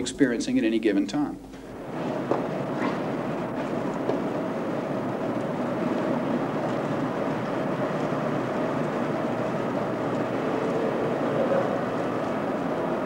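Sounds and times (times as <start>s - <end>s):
steady drone of noise: 1.5s - 13.0s.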